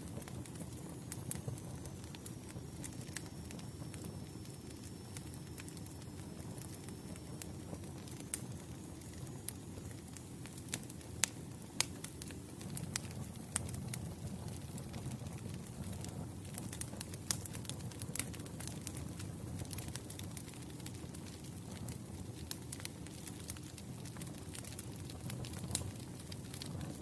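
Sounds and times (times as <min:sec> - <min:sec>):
campfire crackling and popping: 0:00.0 - 0:27.0
low rumble of flame: 0:00.0 - 0:27.0.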